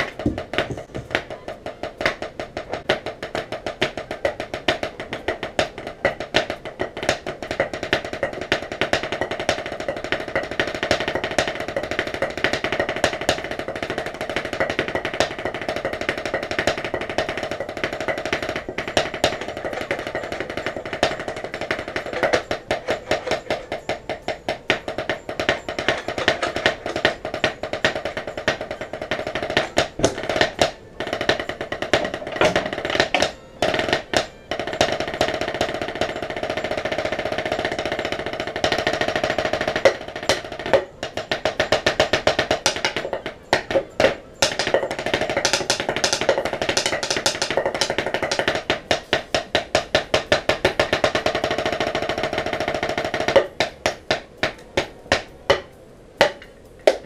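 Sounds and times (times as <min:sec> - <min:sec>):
drumsticks on practice pad: 0:00.0 - 0:57.0.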